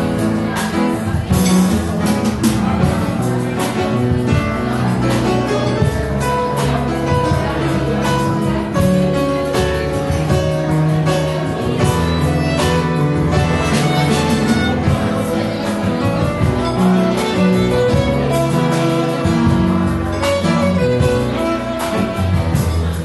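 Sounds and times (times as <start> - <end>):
double bass walking bass line: 0.0 - 23.0
plucked strings: 0.0 - 23.0.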